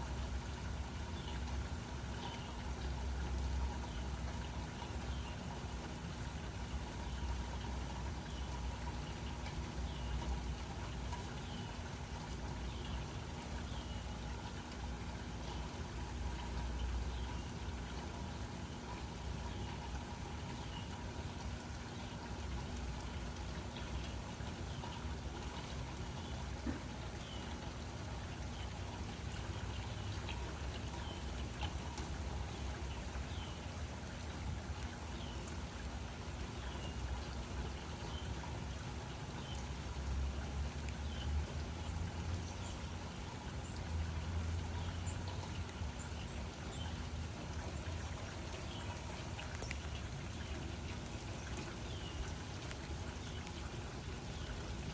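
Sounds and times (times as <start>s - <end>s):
close drips: 0.0s - 54.9s.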